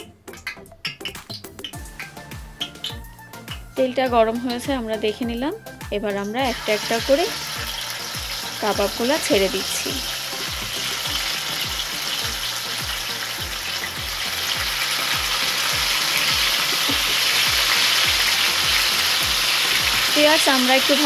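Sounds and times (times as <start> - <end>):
kebabs sizzling in a frying pan: 0.0 - 21.0.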